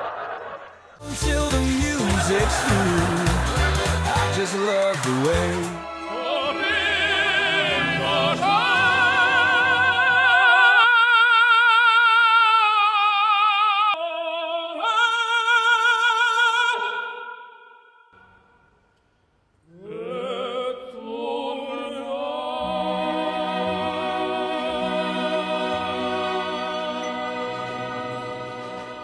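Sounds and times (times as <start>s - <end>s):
operatic singing with vibrato: 1.0s - 18.2s, 19.7s - 29.0s.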